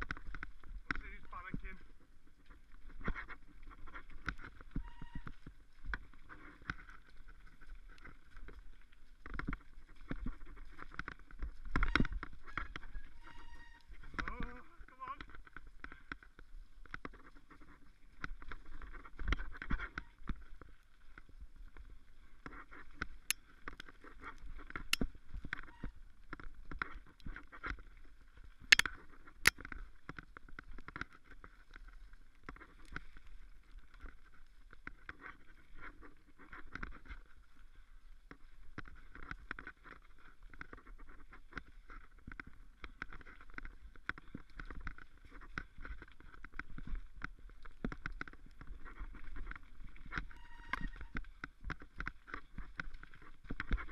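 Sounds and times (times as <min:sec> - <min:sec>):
bike tyre and trail noise: 0:00.0 - 0:53.9.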